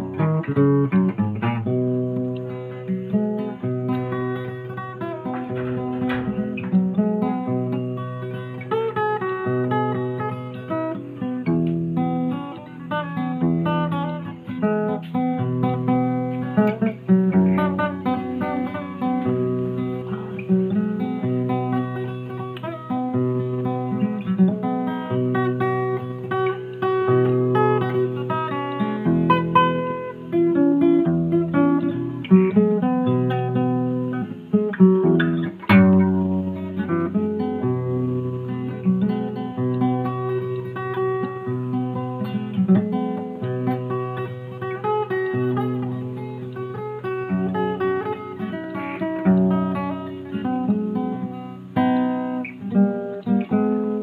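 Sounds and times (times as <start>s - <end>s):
acoustic guitar: 0.0s - 54.0s.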